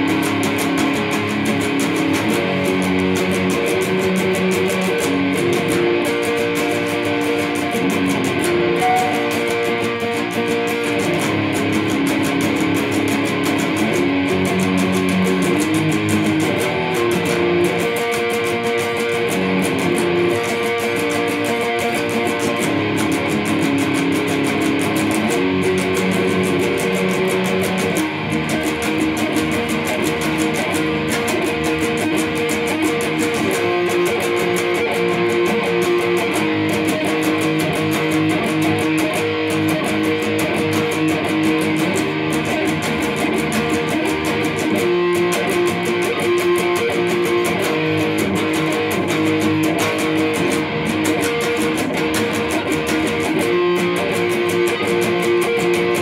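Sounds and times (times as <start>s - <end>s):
electric guitar chords: 0.0s - 56.0s.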